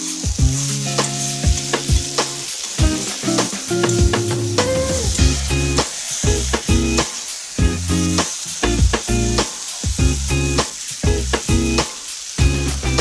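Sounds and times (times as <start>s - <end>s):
food sizzling in a pan: 0.0s - 13.0s
music with heavy bass beat: 0.0s - 13.0s.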